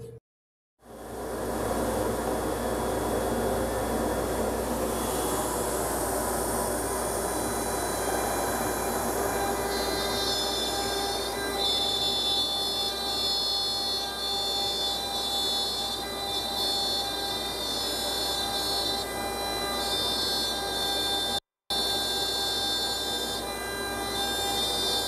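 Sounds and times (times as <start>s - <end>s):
router spindle whine cutting wood: 2.2s - 25.0s.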